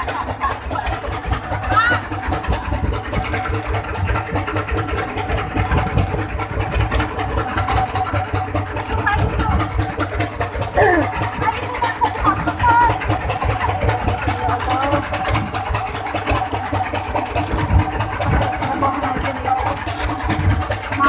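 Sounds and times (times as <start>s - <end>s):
voices calling out: 0.0s - 3.8s, 7.3s - 21.0s
boat engine droning: 0.0s - 21.0s.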